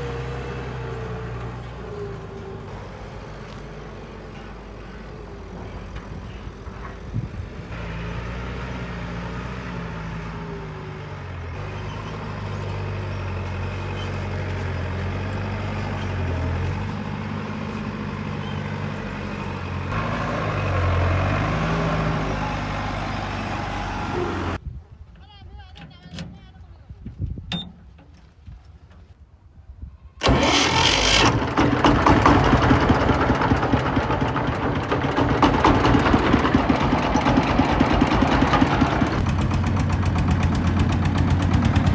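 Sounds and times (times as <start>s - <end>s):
heavy diesel engines revving: 0.0s - 24.6s, 30.2s - 41.9s.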